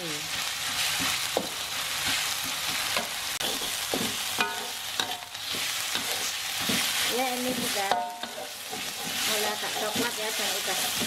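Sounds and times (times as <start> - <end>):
spice paste sizzling in oil: 0.0 - 11.0
metal spatula scraping a wok: 0.3 - 11.0.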